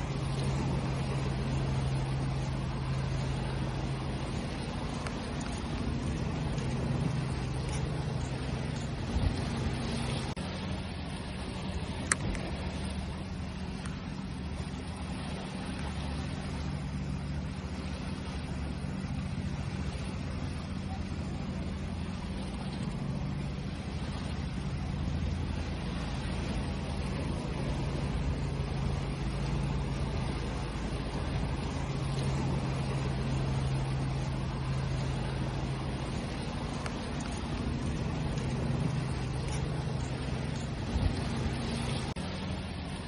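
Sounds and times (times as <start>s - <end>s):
low steady drone: 0.0s - 43.0s
ocean waves washing: 0.0s - 43.0s.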